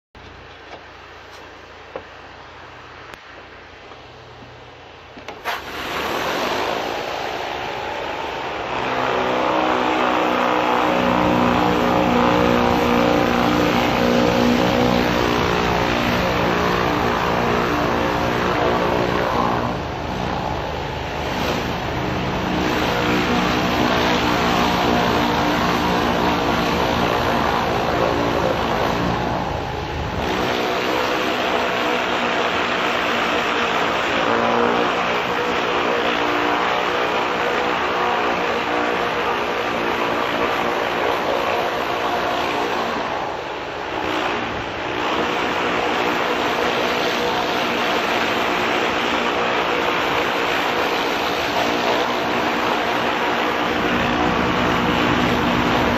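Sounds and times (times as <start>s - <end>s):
petrol engine running with hiss: 0.2s - 55.9s.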